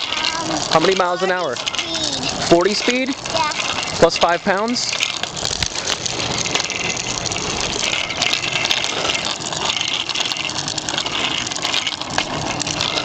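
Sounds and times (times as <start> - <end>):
wheels rolling on pavement: 0.0 - 13.0
wind: 0.0 - 13.0.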